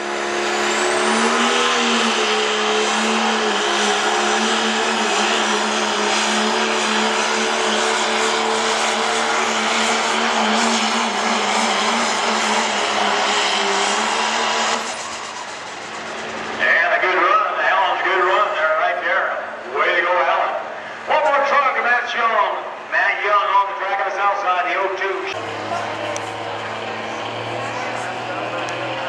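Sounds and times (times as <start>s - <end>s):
diesel truck engine at full throttle: 0.0s - 24.2s, 25.1s - 29.0s.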